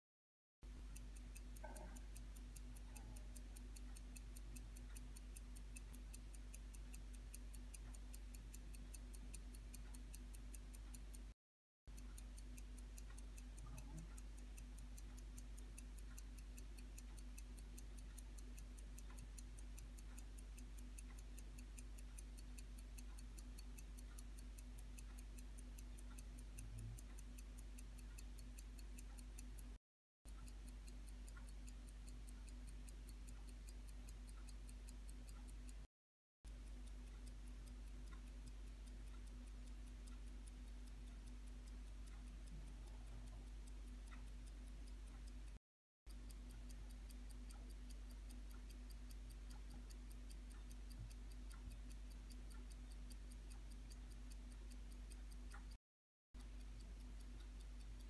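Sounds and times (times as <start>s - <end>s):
pocket watch ticking: 0.6s - 58.0s.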